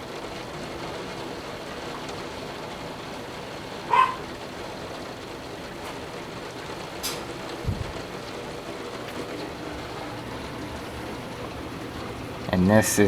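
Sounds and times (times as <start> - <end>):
torrential rain pouring: 0.0 - 13.0.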